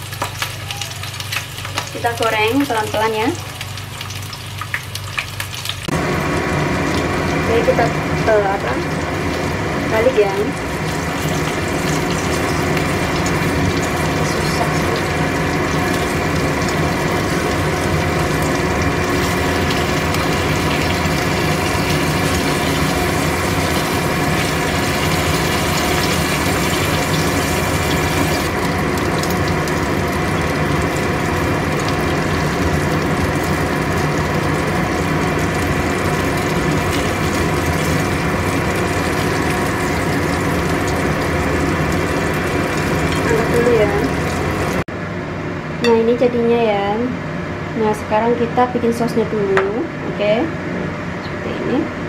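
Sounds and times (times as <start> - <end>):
chillies frying in oil: 0.0 - 44.9
induction cooktop humming: 0.0 - 52.0.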